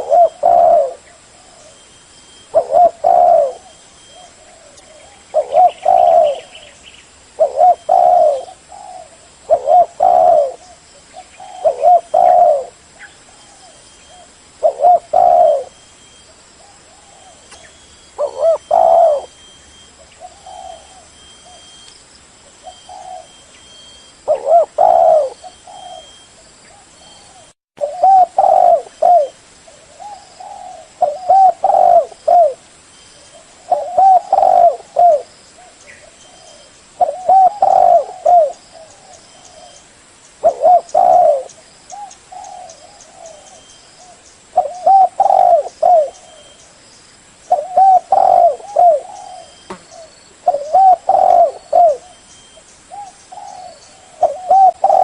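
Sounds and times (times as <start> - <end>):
dove cooing: 0.0 - 1.8, 2.4 - 6.8, 7.4 - 21.9, 22.5 - 32.6, 33.2 - 39.8, 40.4 - 46.6, 47.4 - 55.0.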